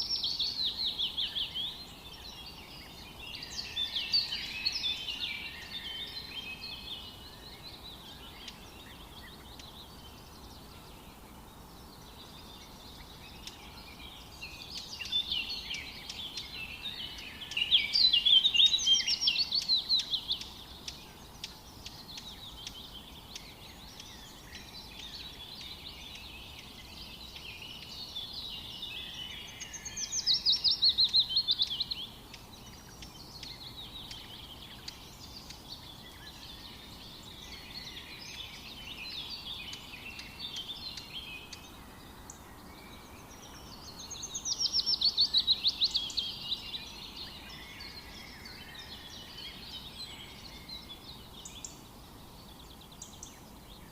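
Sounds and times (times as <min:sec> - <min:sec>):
faint background hiss: 0:00.0 - 0:53.9
soft bird chirping: 0:00.0 - 0:53.9.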